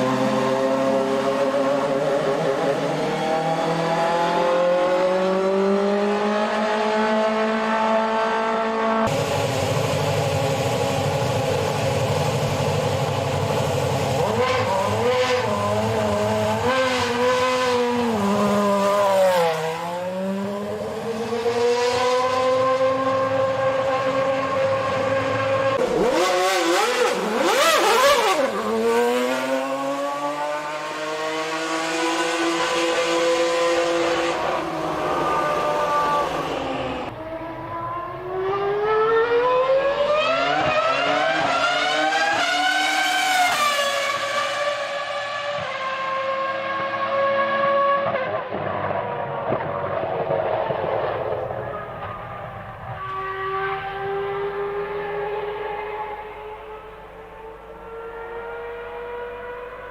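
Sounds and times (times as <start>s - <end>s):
racing car engine at high revs: 0.0s - 59.9s.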